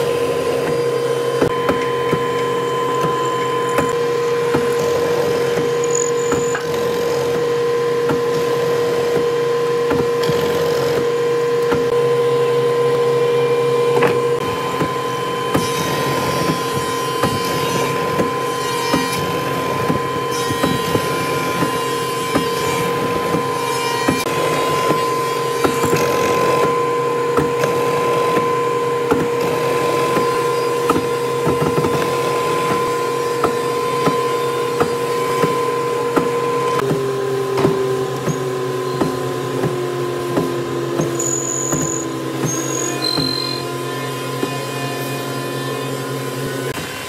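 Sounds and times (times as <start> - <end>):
mortising machine motor hum: 0.0 - 47.0.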